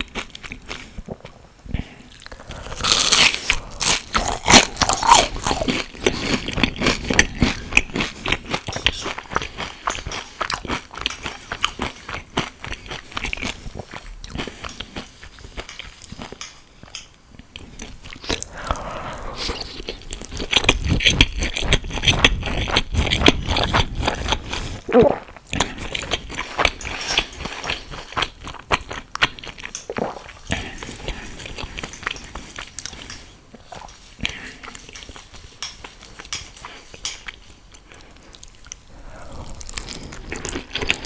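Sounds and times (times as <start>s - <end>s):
crunchy chewing: 0.0s - 16.6s, 17.4s - 24.8s, 25.5s - 41.0s.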